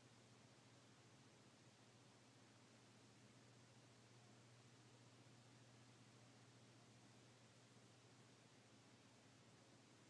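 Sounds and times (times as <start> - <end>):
faint low hum and hiss: 0.0 - 10.0.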